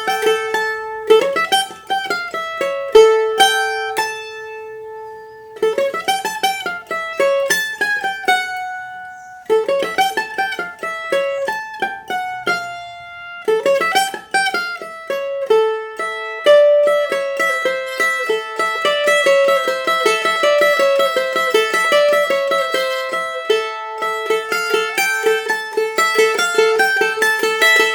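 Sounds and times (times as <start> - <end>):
mandolin plucked notes: 0.0 - 27.9.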